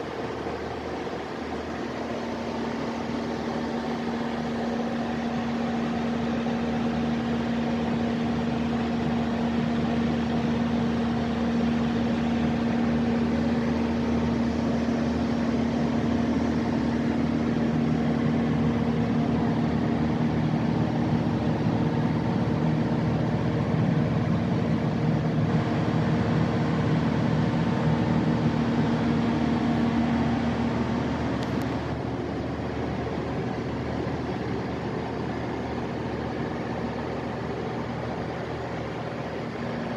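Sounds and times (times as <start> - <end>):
diesel generator droning: 0.0 - 39.9.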